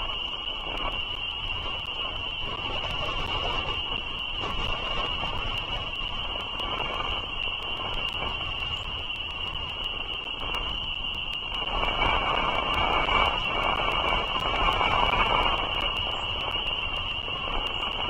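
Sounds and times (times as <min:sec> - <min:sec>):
constant high-pitched tone: 0:00.0 - 0:18.0
faint ticks: 0:00.0 - 0:18.0.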